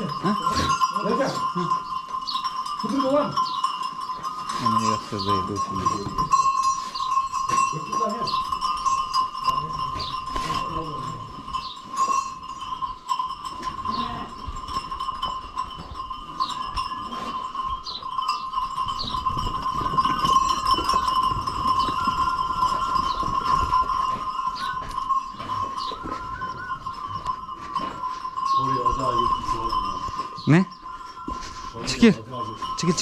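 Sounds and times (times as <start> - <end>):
sheep bells jangling: 0.0 - 33.0.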